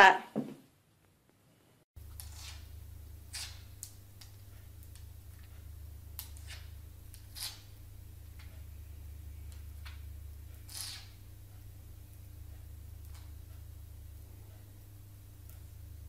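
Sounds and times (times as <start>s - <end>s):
steady low hum: 2.0s - 16.0s.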